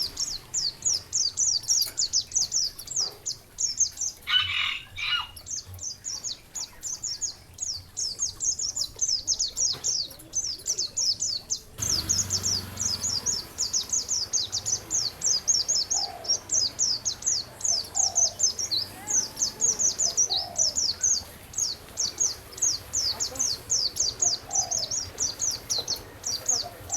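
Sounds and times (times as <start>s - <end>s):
songbird chirping: 0.0s - 26.9s.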